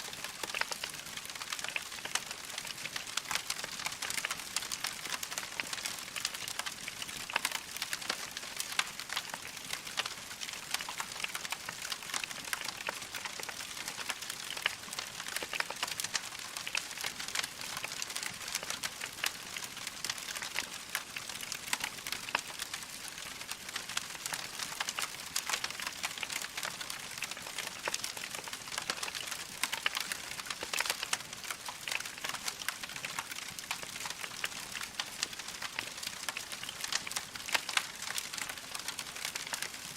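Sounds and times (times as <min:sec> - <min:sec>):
burning logs crackling: 0:00.2 - 0:39.9.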